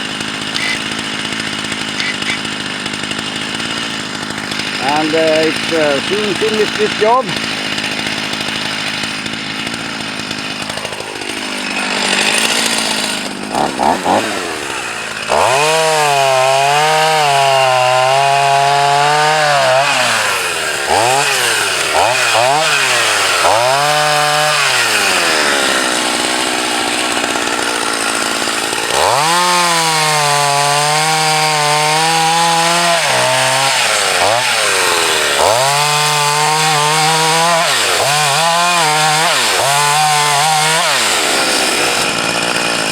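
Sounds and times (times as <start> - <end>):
chainsaw cutting a log: 0.0 - 42.9.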